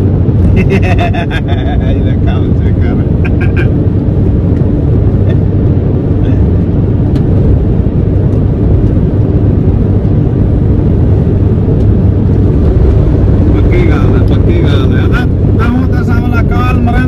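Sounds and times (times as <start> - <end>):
truck driving on highway: 0.0 - 17.0.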